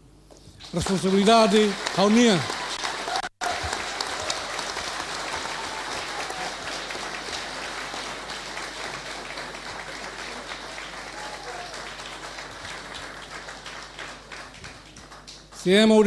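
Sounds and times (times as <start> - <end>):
audience applauding: 0.6 - 16.0.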